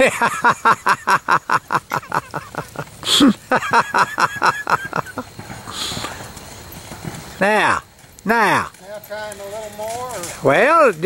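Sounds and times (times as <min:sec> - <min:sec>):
horse hoofbeats on grass and dirt: 0:00.1 - 0:11.0.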